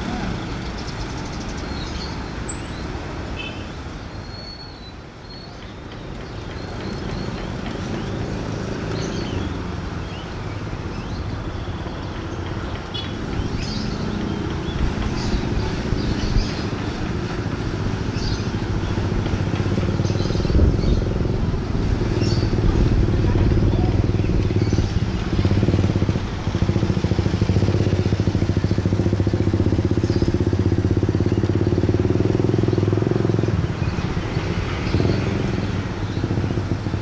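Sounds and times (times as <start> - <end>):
birds chirping: 0.3 - 36.9.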